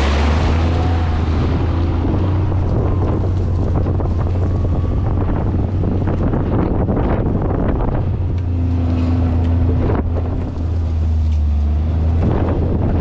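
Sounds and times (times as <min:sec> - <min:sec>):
vehicle engine drone: 0:00.0 - 0:13.0
wind buffeting microphone: 0:00.0 - 0:13.0.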